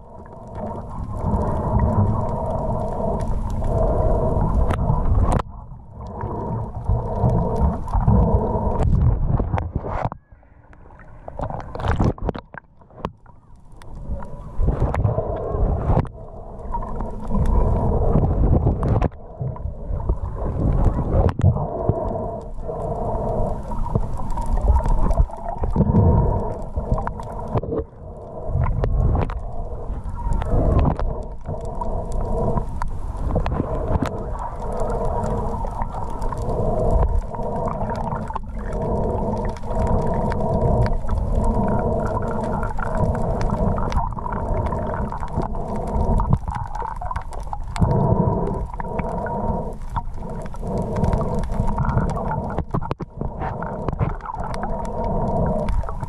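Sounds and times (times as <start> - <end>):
water rushing and sloshing: 0.0 - 56.0.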